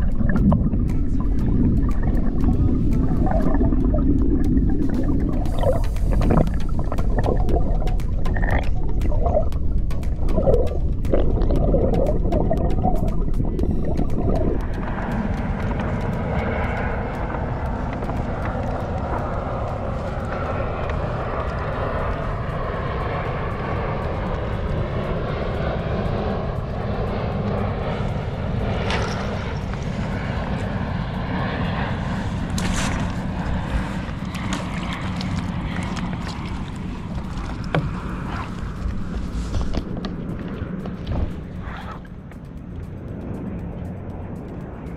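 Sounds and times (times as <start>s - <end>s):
wind rumbling on microphone: 0.0s - 44.9s.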